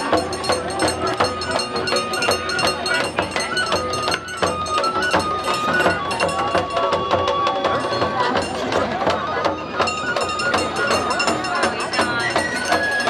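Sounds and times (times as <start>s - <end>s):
drum beat: 0.0s - 13.0s
flute melody: 0.0s - 13.0s
metallic percussion strikes: 0.0s - 13.0s.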